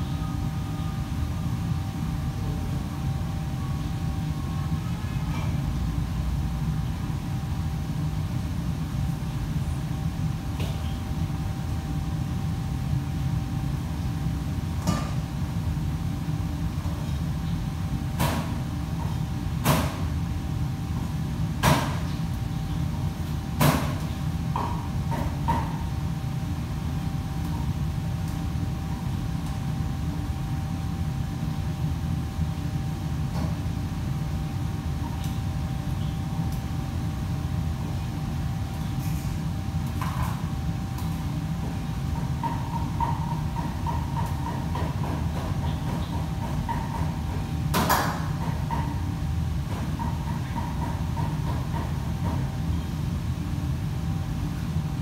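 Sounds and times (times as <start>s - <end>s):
kitchen machinery hum: 0.0s - 55.0s.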